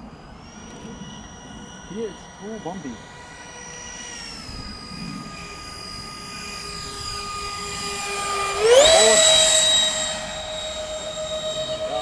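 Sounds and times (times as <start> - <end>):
electric ducted fans whining: 0.0 - 12.0.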